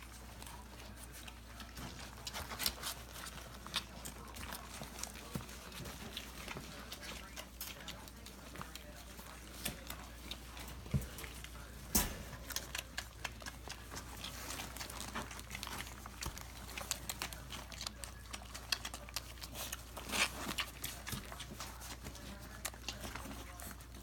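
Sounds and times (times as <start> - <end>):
puppies suckling wet clicks: 0.0 - 24.0.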